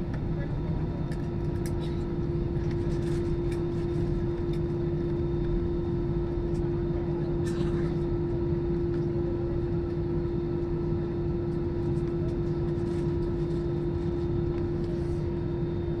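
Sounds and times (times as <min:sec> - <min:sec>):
airliner engines humming: 0:00.0 - 0:16.0.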